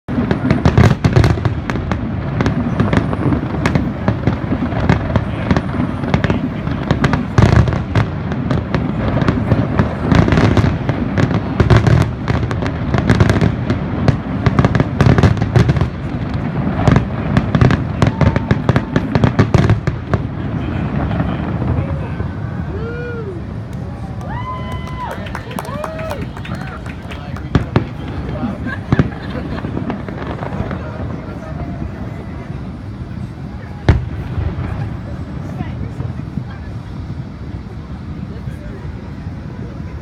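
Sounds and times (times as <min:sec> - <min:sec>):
fireworks cracking: 0:00.1 - 0:40.0
low rumble of fireworks booms: 0:00.1 - 0:40.0.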